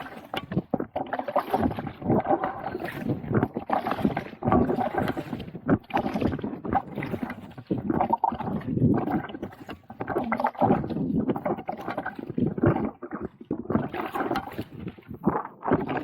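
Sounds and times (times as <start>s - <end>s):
paddle splashing water: 0.0s - 16.0s.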